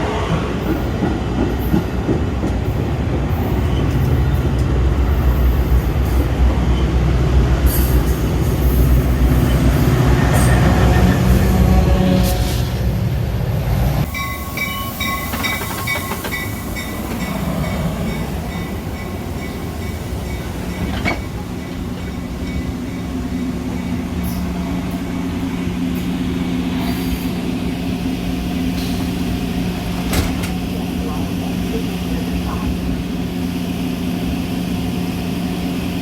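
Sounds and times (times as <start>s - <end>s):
train low hum: 0.0s - 36.0s.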